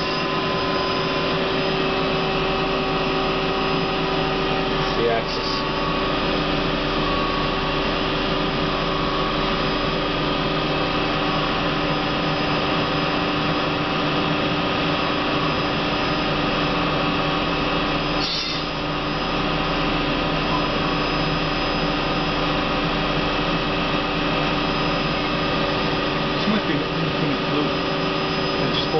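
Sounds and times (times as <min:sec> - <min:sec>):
lathe spindle humming and whining: 0:00.0 - 0:28.9.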